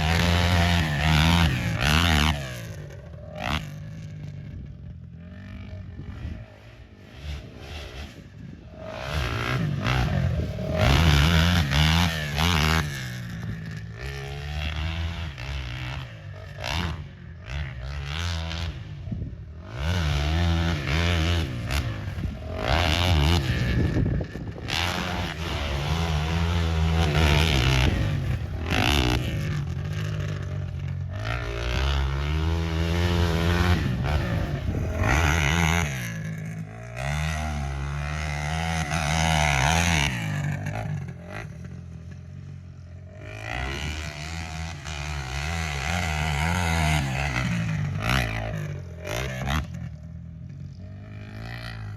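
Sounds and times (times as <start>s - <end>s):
quad engine revving: 0.0s - 51.9s.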